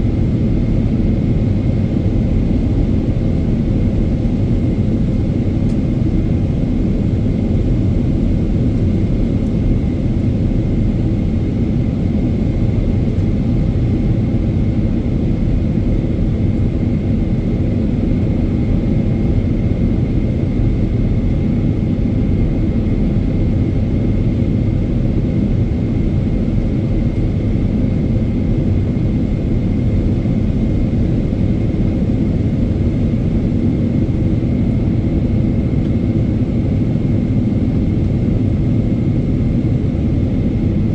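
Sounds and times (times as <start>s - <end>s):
aircraft cabin rumble: 0.2s - 40.9s.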